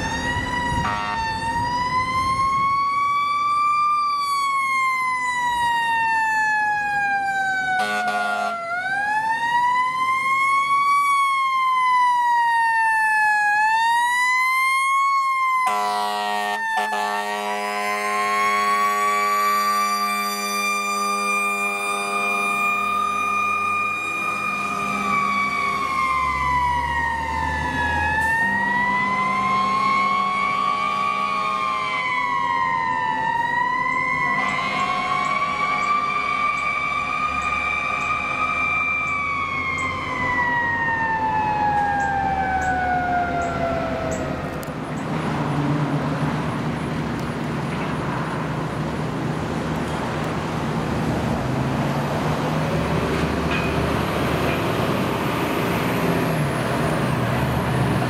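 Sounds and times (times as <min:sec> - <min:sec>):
fire engine siren wailing: 0:00.0 - 0:58.0
truck engine and road noise: 0:00.0 - 0:58.0.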